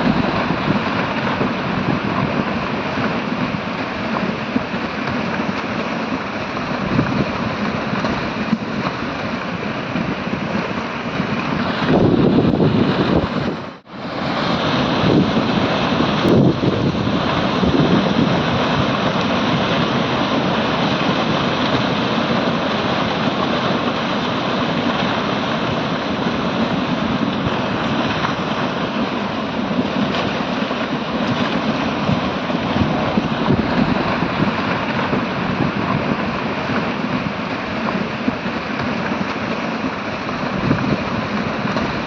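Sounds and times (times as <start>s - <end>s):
torrent of mud and stones rushing: 0.0s - 42.0s.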